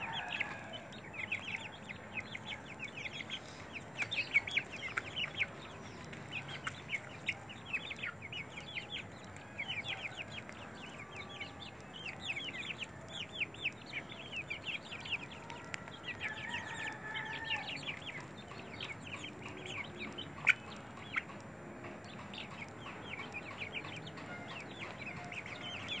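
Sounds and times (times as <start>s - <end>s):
chickens chirping: 0.0s - 26.0s.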